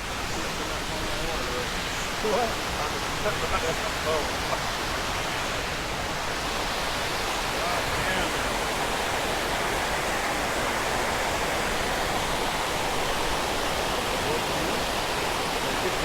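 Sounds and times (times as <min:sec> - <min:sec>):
water rushing over spillway: 0:00.0 - 0:16.0.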